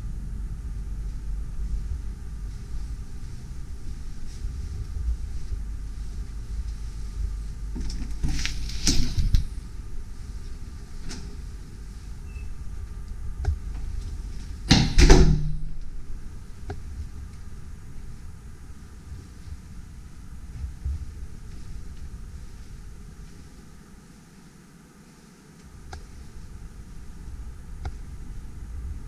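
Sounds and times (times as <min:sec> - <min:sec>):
low rumbling microphone noise: 0:00.0 - 0:29.0.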